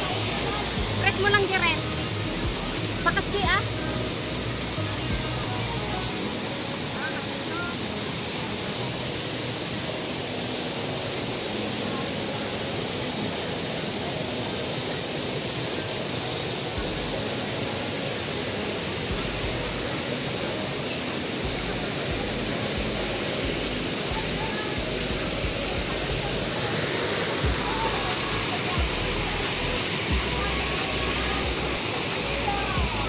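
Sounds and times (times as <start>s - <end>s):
stream and waterfall rushing: 0.0s - 33.0s.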